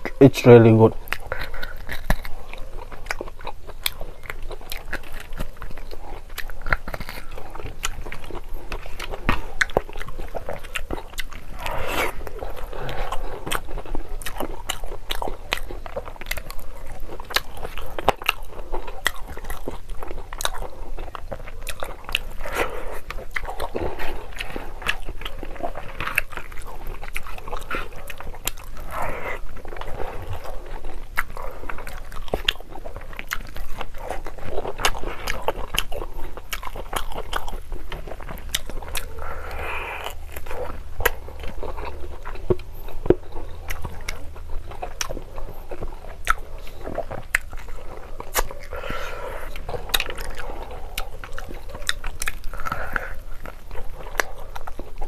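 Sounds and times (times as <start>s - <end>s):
person chewing with mouth clicks: 0.0s - 55.0s.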